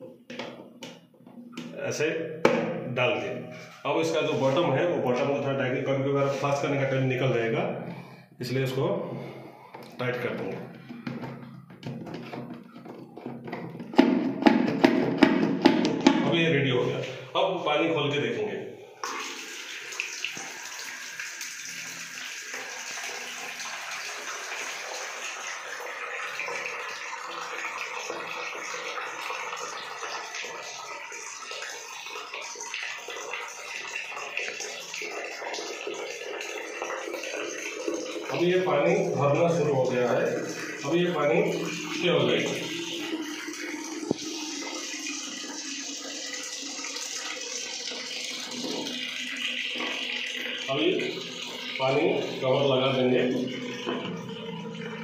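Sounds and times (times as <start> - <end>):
water rushing into toilet cistern: 0.0 - 55.0.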